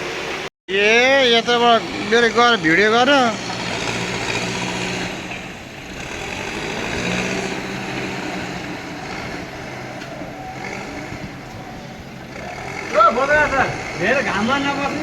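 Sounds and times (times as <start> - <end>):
diesel engine running under work: 0.0 - 15.0.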